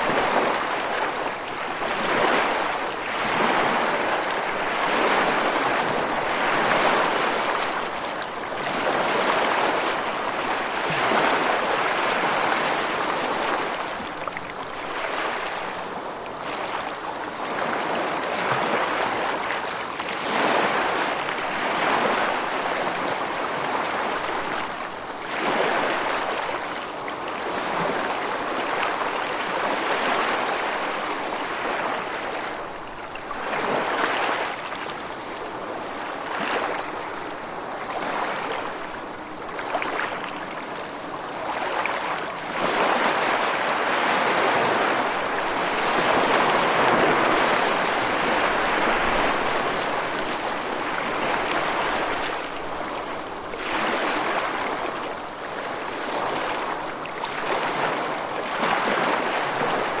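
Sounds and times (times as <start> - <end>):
rushing water: 0.0 - 60.0.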